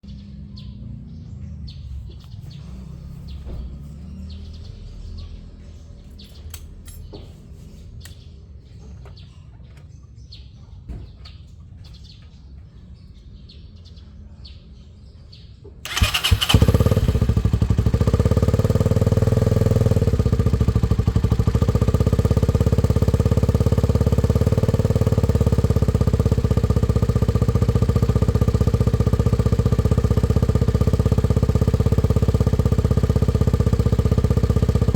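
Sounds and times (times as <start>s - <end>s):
bird chirps: 0.0s - 31.2s
motorcycle engine starting and running: 0.1s - 10.6s, 15.0s - 34.9s.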